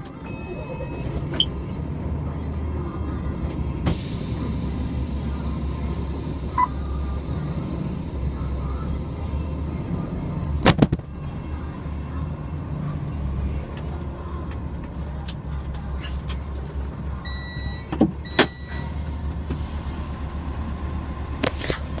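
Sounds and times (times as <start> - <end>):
freight train rumbling: 0.0 - 22.0.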